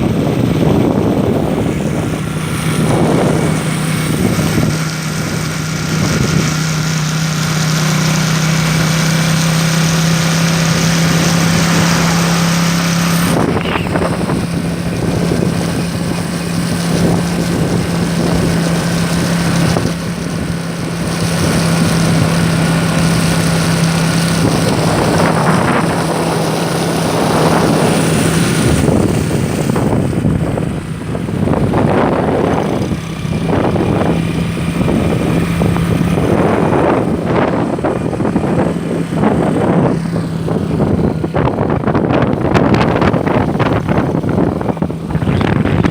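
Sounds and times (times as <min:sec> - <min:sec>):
engine droning: 0:00.0 - 0:45.9
water noise: 0:00.0 - 0:45.9
wind rushing: 0:00.0 - 0:45.9.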